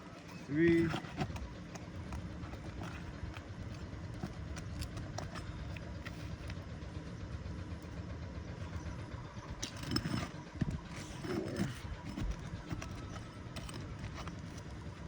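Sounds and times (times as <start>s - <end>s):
tool scraping under shingle: 0.0s - 7.9s, 8.5s - 15.0s
steady low rumble: 0.4s - 15.0s.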